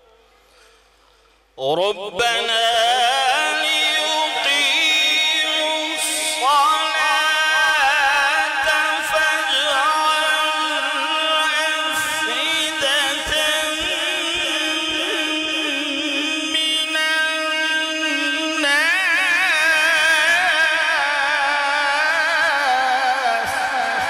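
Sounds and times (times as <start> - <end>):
man reciting melodically: 1.5 - 24.0.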